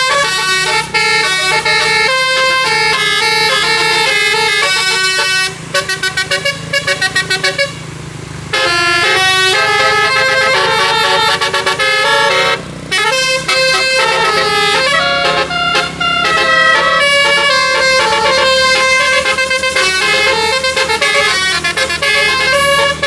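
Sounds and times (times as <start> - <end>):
bus air horn playing melody: 0.0 - 23.0.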